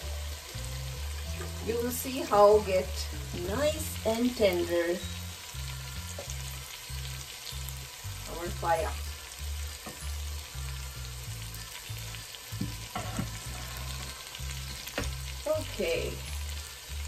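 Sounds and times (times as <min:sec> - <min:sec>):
broth sizzling and bubbling in pot: 0:00.0 - 0:17.0.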